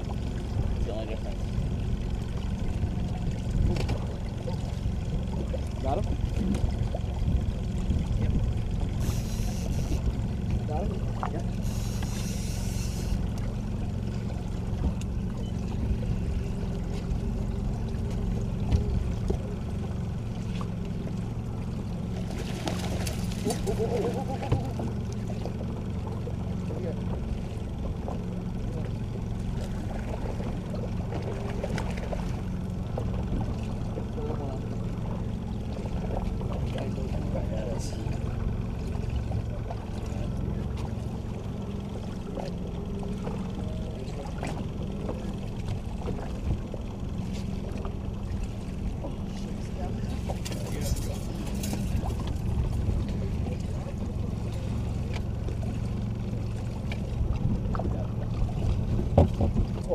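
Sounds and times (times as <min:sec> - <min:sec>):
boat engine humming: 0:00.0 - 0:59.9
outboard motor running: 0:00.0 - 0:59.9
water along hull: 0:00.0 - 0:59.9.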